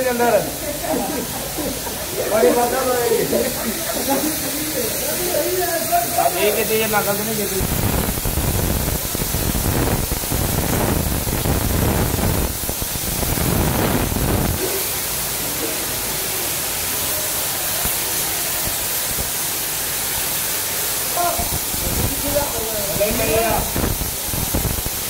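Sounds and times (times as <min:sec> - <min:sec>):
spray gun hissing: 0:00.0 - 0:25.0.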